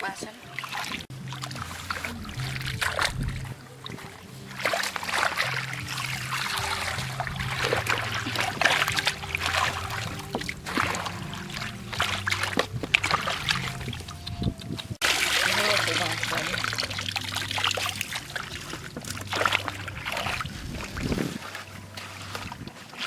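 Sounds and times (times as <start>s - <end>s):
water splashing and sloshing: 0.0s - 23.0s
low droning tone: 1.0s - 22.9s.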